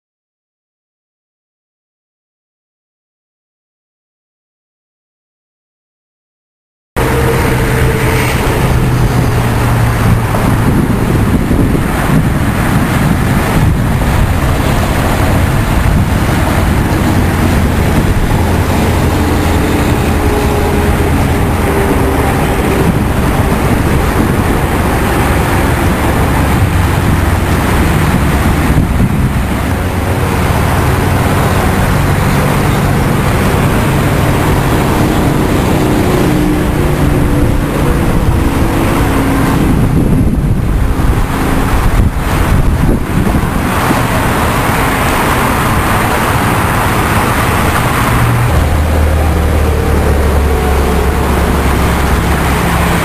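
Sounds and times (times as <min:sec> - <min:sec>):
road and wind noise: 0:07.0 - 0:53.0
truck engine droning: 0:07.0 - 0:53.0.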